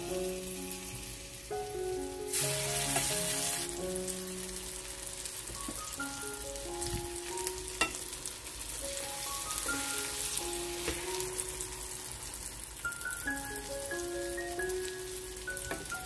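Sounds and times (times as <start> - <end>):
fish sizzling in butter: 0.0 - 16.0.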